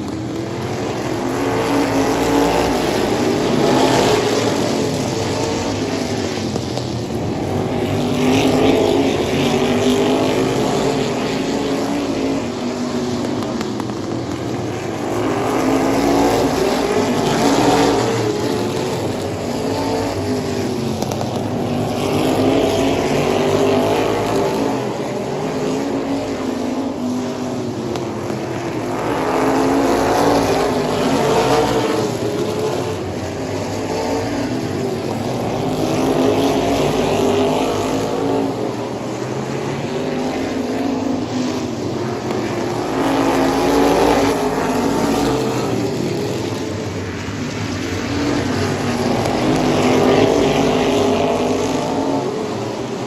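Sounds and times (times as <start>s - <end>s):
racing car engines revving: 0.0s - 53.0s.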